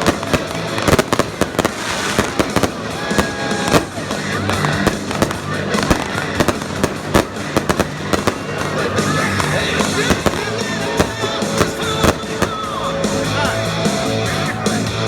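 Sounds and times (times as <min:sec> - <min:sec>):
fireworks cracking and popping: 0:00.0 - 0:13.6
loud music: 0:00.0 - 0:15.0.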